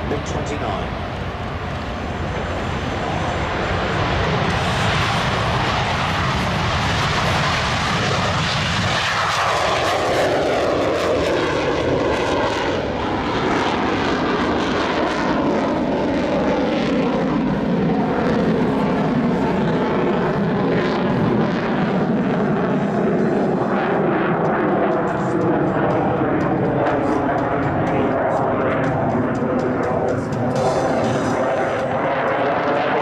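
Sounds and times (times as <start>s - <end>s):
fighter jet flying past: 0.0s - 33.0s.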